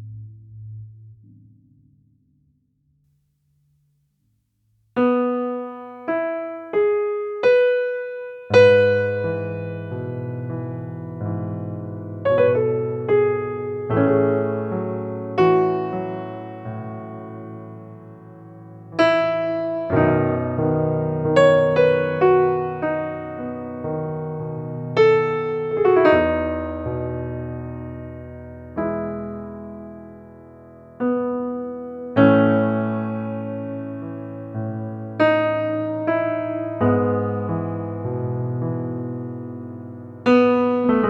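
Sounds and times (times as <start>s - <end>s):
gentle piano music: 5.0s - 41.0s.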